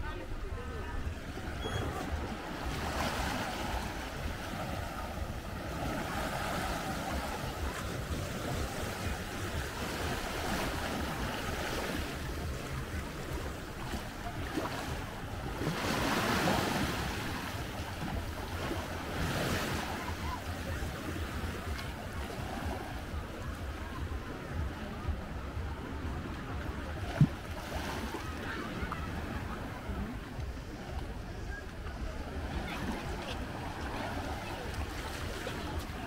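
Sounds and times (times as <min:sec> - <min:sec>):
low rumble of wind: 0:00.0 - 0:19.2, 0:19.8 - 0:36.0
small waves washing onto beach: 0:00.0 - 0:36.0.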